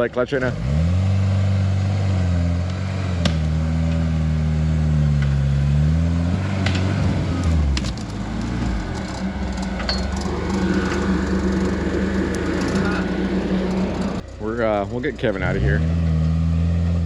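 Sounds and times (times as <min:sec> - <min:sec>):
truck engine revving under load: 0:00.0 - 0:17.0.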